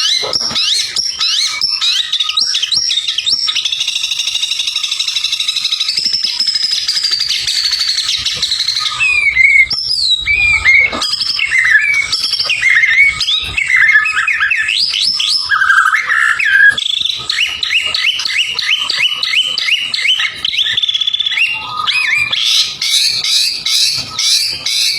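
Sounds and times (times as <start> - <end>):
songbird singing trills and whistles: 0.0 - 24.9.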